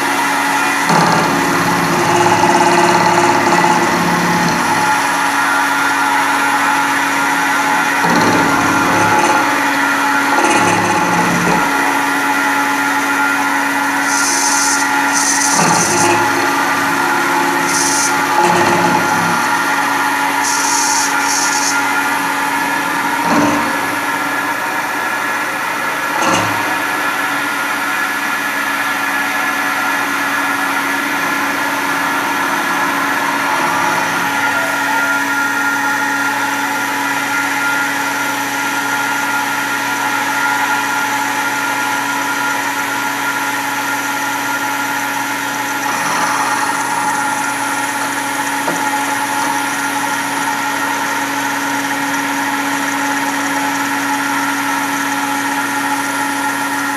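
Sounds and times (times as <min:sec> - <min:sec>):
end mill cutting metal: 0:00.0 - 0:56.9
milling machine humming: 0:00.0 - 0:56.9.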